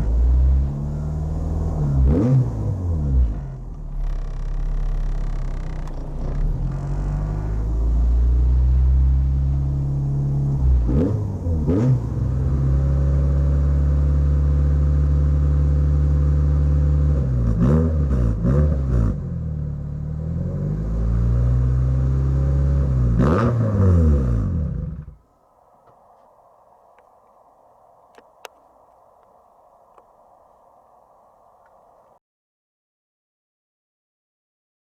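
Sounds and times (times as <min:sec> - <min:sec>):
car engine idling and revving: 0:00.0 - 0:32.2.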